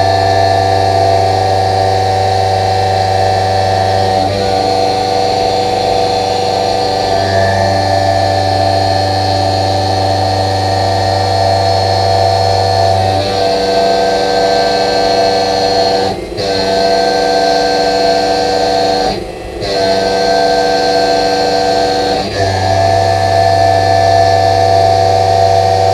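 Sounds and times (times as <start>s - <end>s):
low hum: 0.0s - 25.9s
mill cutting steel drone: 0.0s - 25.9s
spindle tones: 0.0s - 25.9s.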